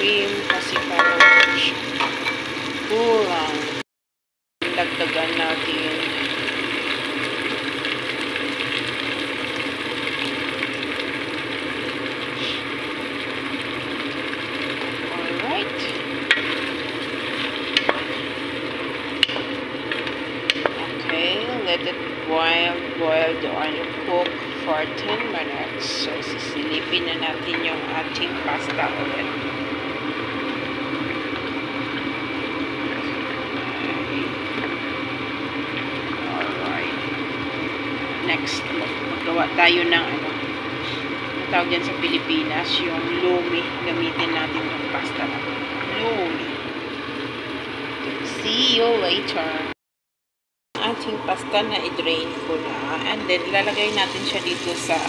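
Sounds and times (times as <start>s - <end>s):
food sizzling in a pan: 0.0s - 3.8s, 4.6s - 49.7s, 50.8s - 55.0s
water boiling and bubbling: 0.0s - 3.8s, 4.6s - 49.7s, 50.8s - 55.0s.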